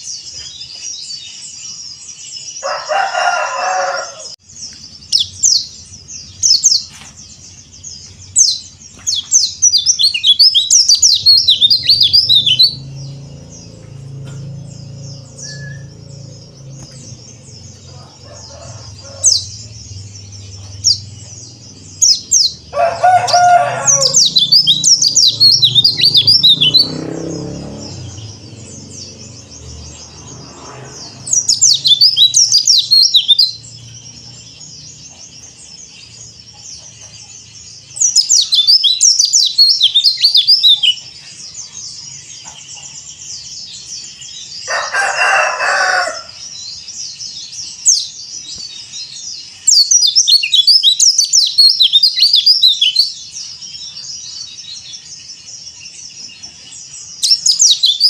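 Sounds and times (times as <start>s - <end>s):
bird twittering: 0.0s - 27.2s, 31.0s - 58.0s
background bird chatter: 0.0s - 58.0s.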